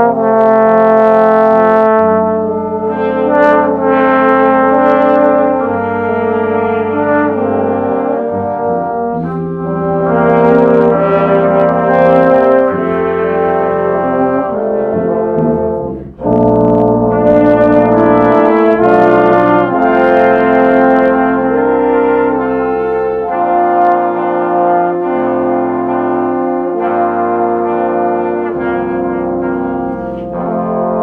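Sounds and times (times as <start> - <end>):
brass ensemble chords: 0.0 - 31.0.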